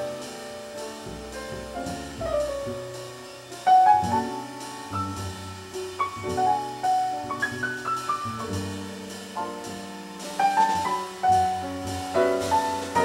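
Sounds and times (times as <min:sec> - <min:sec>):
double bass: 0:00.0 - 0:13.0
jazz piano: 0:00.0 - 0:13.0
lightly played drum kit: 0:00.0 - 0:13.0.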